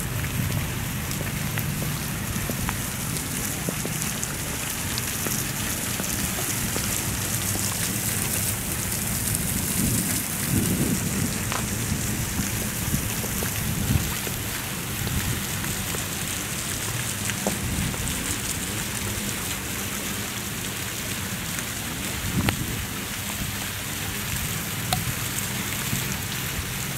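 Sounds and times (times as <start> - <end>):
fountain water splashing: 0.0 - 26.9.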